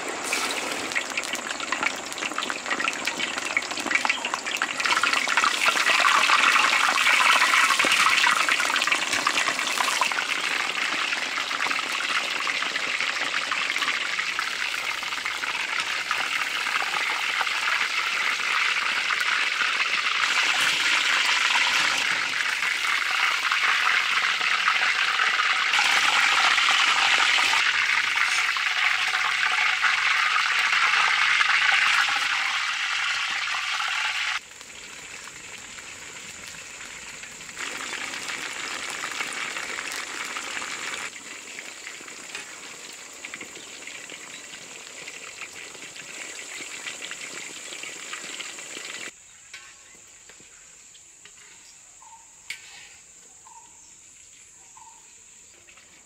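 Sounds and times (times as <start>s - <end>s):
chicken sizzling in hot oil: 0.0s - 50.0s
crickets trilling: 0.2s - 11.6s, 13.0s - 56.0s.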